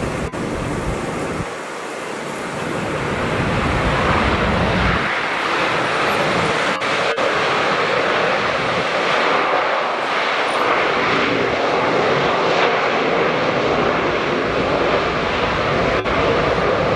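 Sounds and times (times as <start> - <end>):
jet engines rushing: 0.0 - 16.9.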